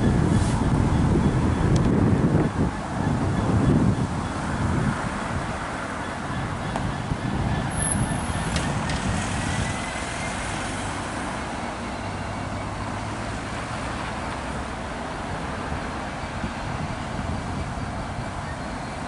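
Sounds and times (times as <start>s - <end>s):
locomotive diesel engine rumbling: 0.0s - 19.0s.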